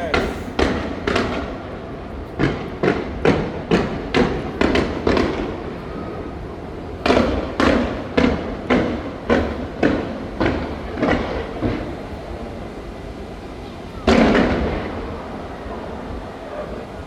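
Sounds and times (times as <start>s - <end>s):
fireworks bangs: 0.0s - 12.7s, 13.9s - 16.7s.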